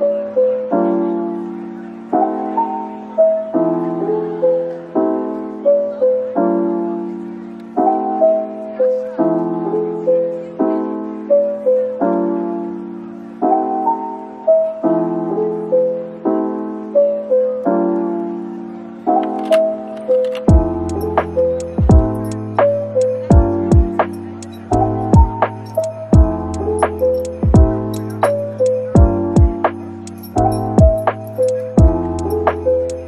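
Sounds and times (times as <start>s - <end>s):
soft piano music: 0.0s - 33.0s.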